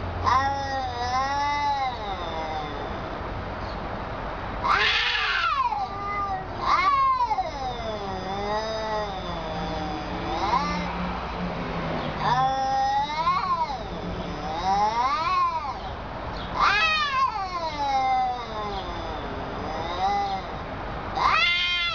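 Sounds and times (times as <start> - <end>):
cats yowling: 0.2 - 3.3, 4.6 - 11.3, 12.2 - 21.9
low drawn-out cat moan: 0.2 - 3.3, 4.6 - 11.3, 12.2 - 15.9, 16.6 - 21.9.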